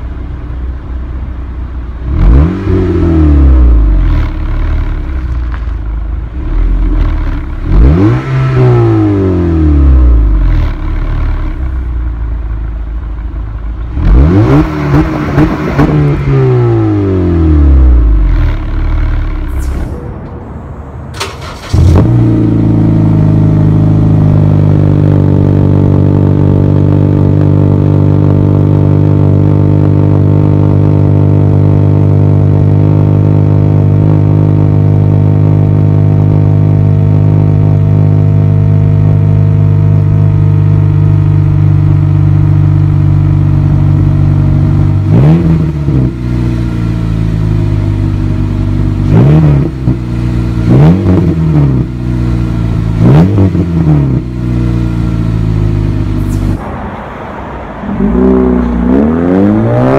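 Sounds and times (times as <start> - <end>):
car engine idling: 0.0 - 8.0, 9.0 - 59.8
car engine revving: 2.0 - 11.8, 13.7 - 59.9.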